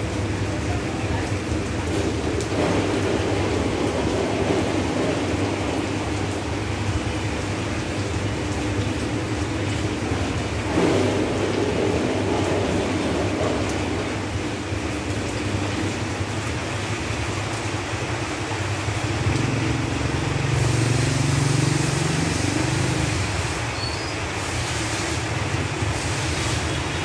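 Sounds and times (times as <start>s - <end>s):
rain falling on leaves: 0.0s - 27.0s
passing vehicle rumble: 1.1s - 24.4s.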